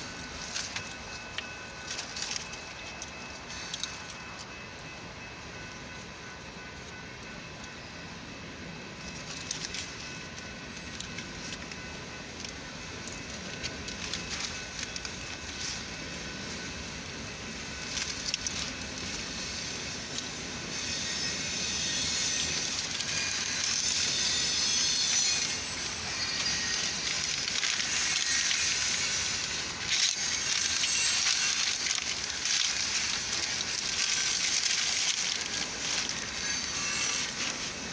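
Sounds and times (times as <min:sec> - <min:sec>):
high hissing grinding noise: 0:00.0 - 0:04.6, 0:09.0 - 0:37.9
wheels clicking over rails: 0:00.0 - 0:04.6, 0:09.0 - 0:37.9
freight train rumbling past: 0:00.0 - 0:37.9.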